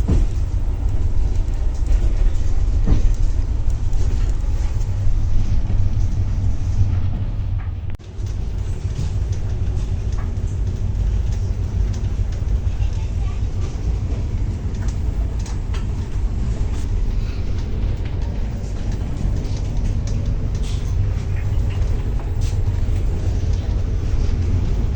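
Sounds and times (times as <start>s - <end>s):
light clicks and rattles: 0.0s - 24.9s
train running gear rumble: 0.0s - 24.9s.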